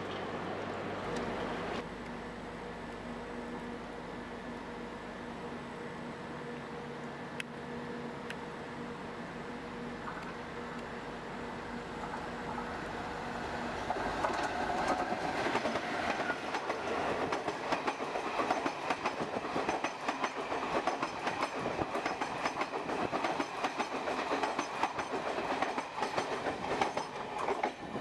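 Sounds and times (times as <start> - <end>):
train passing: 0.0 - 28.0.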